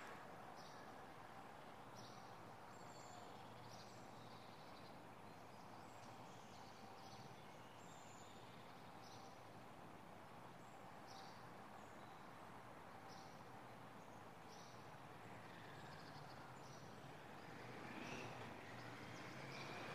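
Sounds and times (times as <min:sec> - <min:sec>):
low background hiss: 0:00.0 - 0:19.9.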